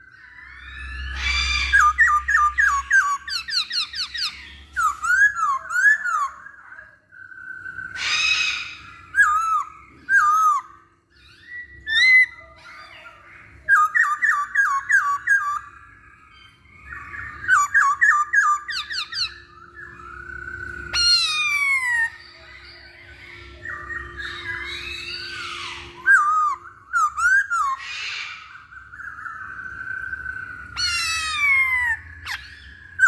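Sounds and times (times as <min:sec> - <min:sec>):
bird whistled song: 0:00.0 - 0:33.0.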